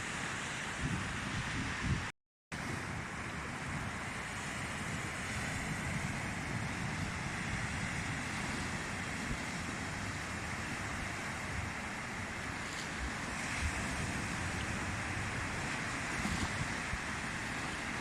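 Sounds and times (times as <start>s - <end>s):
small waves washing onto beach: 0.0s - 18.0s
wind buffeting microphone: 0.6s - 18.0s.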